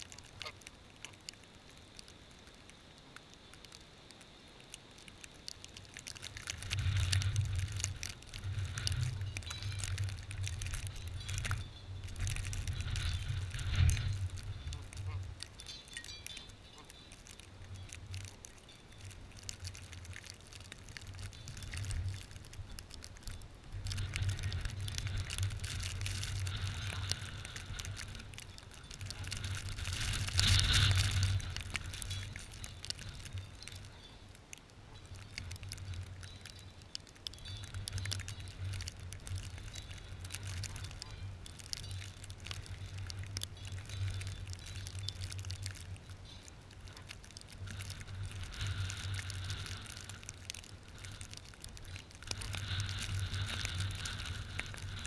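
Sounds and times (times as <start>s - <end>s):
fine crackling and ticking: 0.0s - 55.0s.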